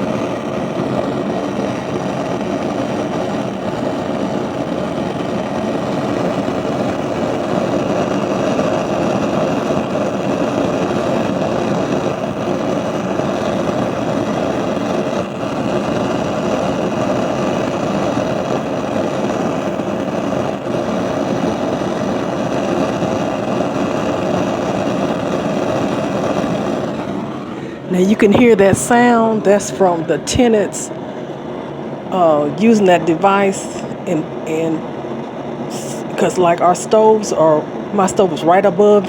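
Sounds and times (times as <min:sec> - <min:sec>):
gas burner flames rushing: 0:00.0 - 0:39.0.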